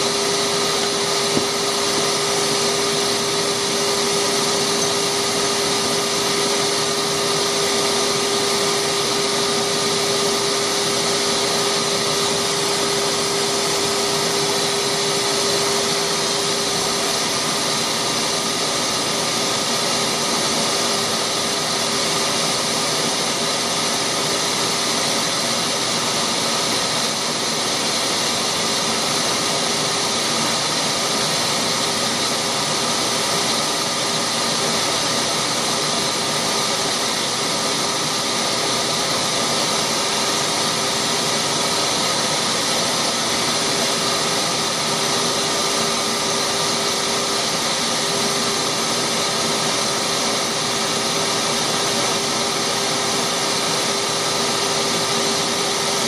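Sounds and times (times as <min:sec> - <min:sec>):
wood lathe whirring: 0:00.0 - 0:56.0.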